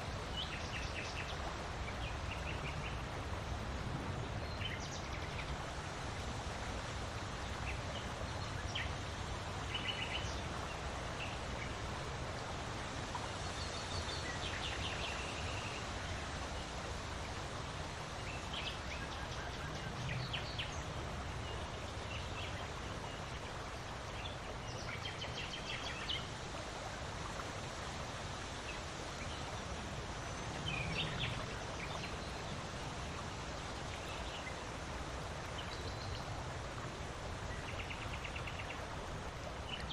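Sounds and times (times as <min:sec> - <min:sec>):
wind with low rumble: 0:00.0 - 0:39.9.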